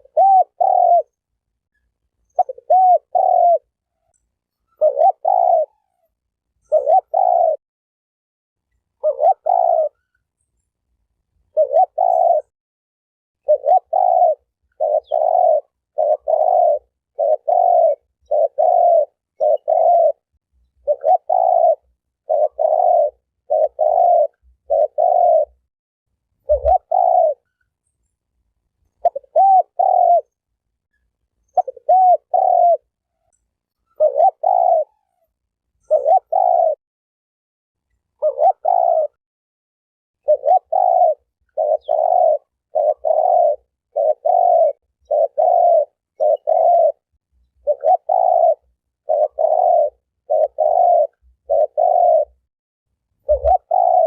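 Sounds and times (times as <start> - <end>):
dove cooing: 0.0 - 1.3, 2.2 - 7.6, 9.0 - 10.2, 11.5 - 12.5, 13.4 - 25.7, 26.4 - 27.6, 28.9 - 30.4, 31.4 - 36.8, 38.1 - 39.2, 40.2 - 52.4, 53.2 - 54.0.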